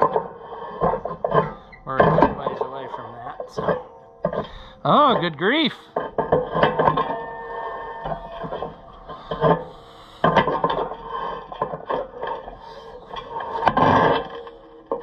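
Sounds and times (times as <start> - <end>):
wrench scraping and clanking on metal: 0.0 - 15.0.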